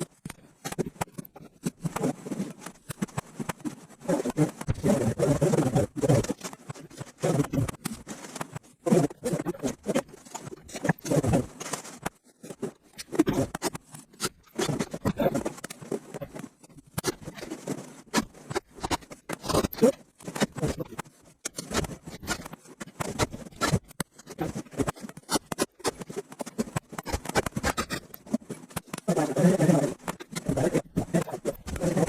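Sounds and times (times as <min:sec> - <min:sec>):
scraping and rustling on wood: 0:00.1 - 0:32.0.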